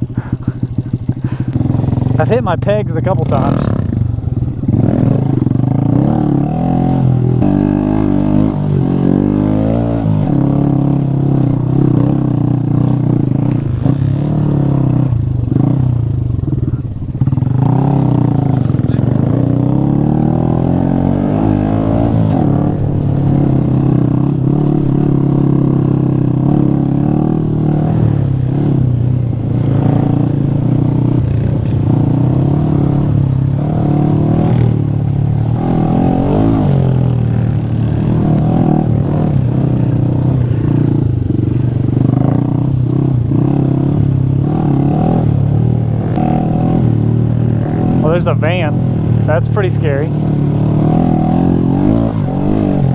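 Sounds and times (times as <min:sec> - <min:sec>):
minibike engine revving: 0:00.0 - 0:52.9.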